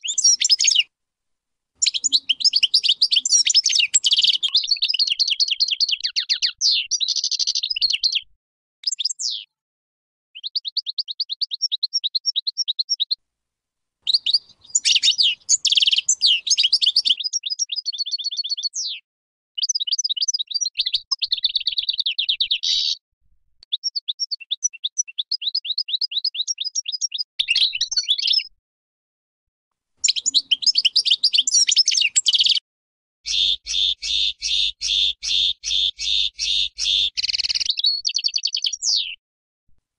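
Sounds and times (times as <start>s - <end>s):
goldfinch singing: 0.0s - 0.9s, 1.8s - 9.5s, 10.4s - 13.2s, 14.1s - 19.0s, 19.6s - 23.0s, 23.7s - 28.5s, 30.0s - 32.6s, 33.3s - 39.2s.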